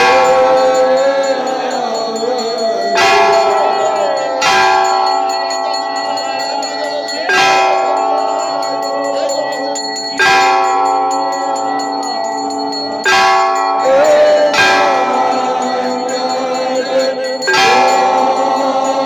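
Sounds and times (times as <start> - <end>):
continuous bell clangour: 0.0 - 19.0
temple bell strokes: 0.0 - 19.0.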